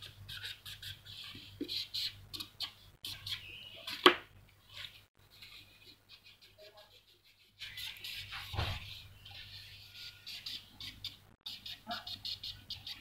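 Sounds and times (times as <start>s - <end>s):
marker scratching on paper: 0.0s - 4.1s, 4.7s - 13.0s.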